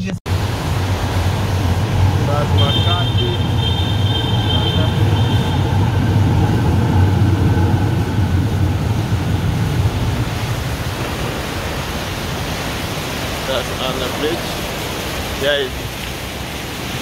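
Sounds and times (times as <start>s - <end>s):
traffic rumble: 0.0s - 17.0s
fountain water splashing: 0.3s - 17.0s.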